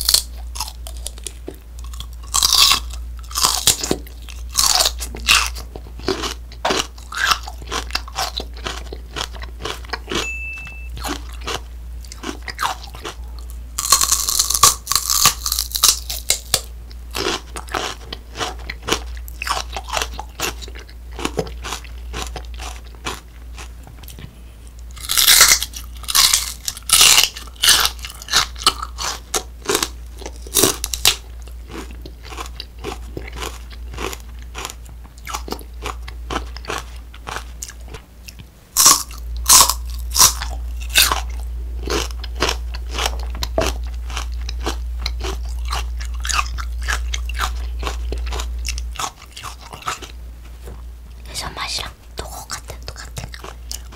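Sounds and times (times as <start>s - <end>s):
crunching and chewing celery: 0.0s - 53.9s
low steady hum: 0.0s - 53.9s.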